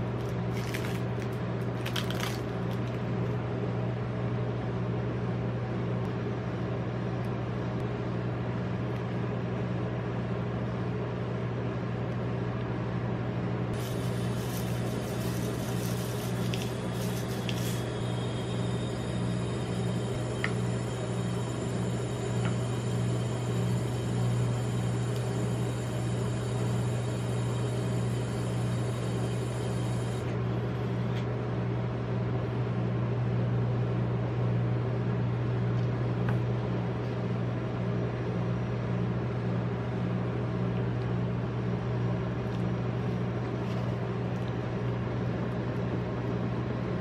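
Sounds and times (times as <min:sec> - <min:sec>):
refrigeration compressor hum: 0:00.0 - 0:47.0.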